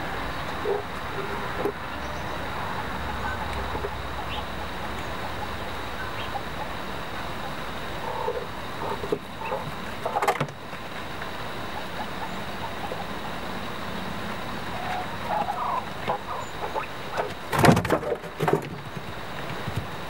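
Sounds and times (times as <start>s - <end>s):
steady hiss: 0.0s - 20.0s
quails calling softly: 0.4s - 17.6s.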